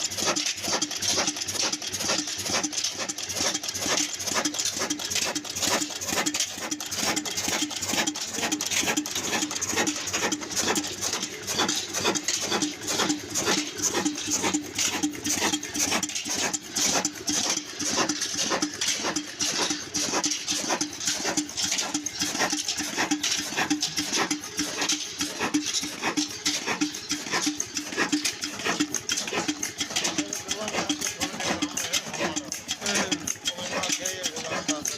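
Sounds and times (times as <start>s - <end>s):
old diesel engine running: 0.0s - 34.9s.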